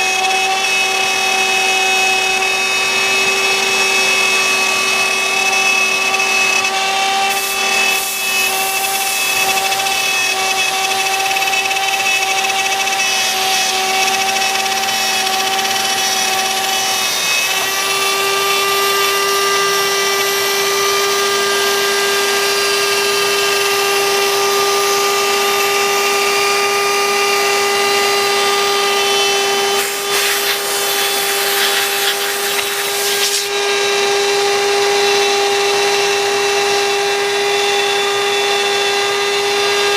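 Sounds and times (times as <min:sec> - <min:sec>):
harsh wood cutting noise: 0:00.0 - 0:39.9
router spindle whine: 0:00.0 - 0:39.9.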